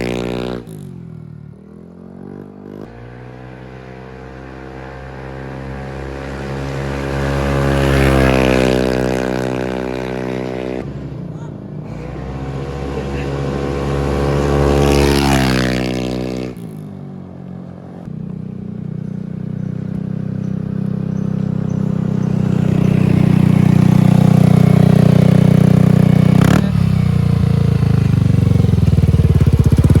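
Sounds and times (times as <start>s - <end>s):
scooter engine revving: 0.0s - 30.0s.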